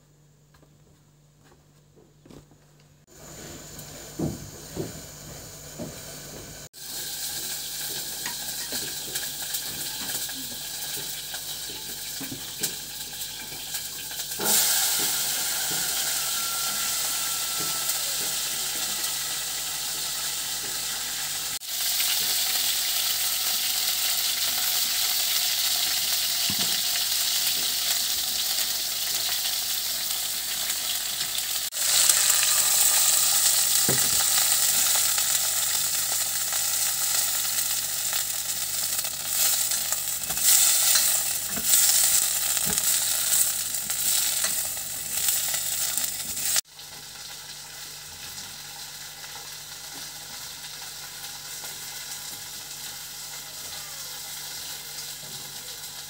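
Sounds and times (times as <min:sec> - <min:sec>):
green beans sizzling in a pot: 0:03.1 - 0:56.0.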